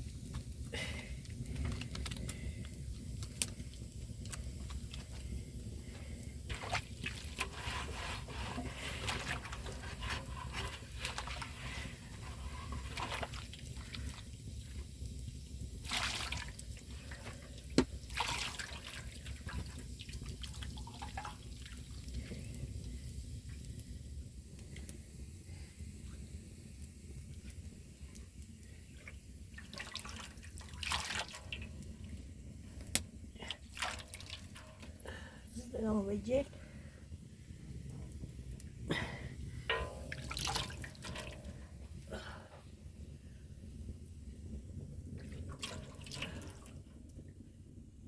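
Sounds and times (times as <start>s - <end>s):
water dripping and trickling: 0.1s - 24.9s, 26.8s - 35.9s, 39.7s - 42.4s, 45.1s - 47.2s.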